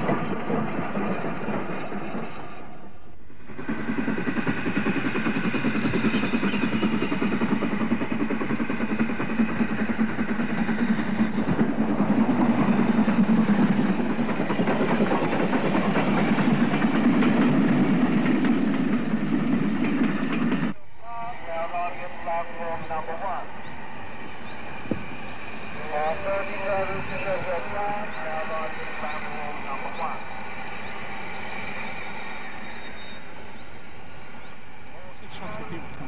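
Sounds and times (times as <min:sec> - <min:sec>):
train wheels on rails: 0:00.0 - 0:20.8, 0:22.1 - 0:36.0
steam locomotive working: 0:00.0 - 0:36.0.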